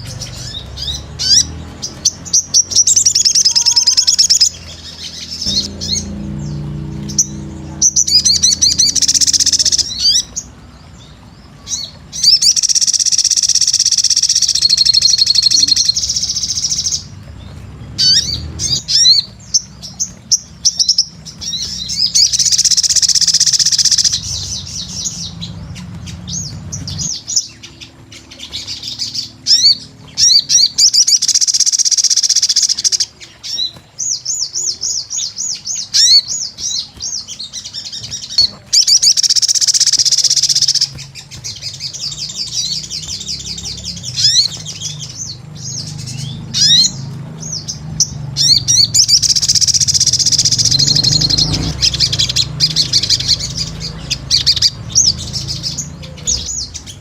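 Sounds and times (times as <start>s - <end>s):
low background hum: 0.0s - 57.0s
sunbird chirping and trilling: 0.0s - 57.0s.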